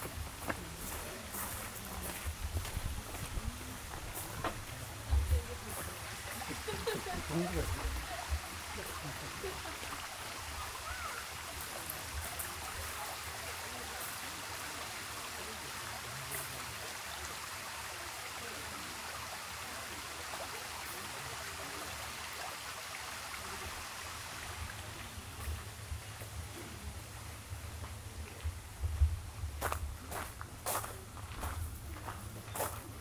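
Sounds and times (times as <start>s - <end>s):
stream trickling: 0.0s - 33.0s.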